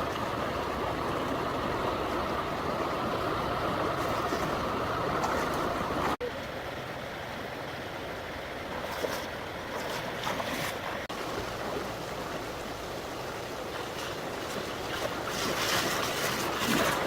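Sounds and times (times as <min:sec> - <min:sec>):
small water splashes: 0:00.0 - 0:06.2, 0:08.7 - 0:17.0
stream water flowing: 0:00.0 - 0:17.0.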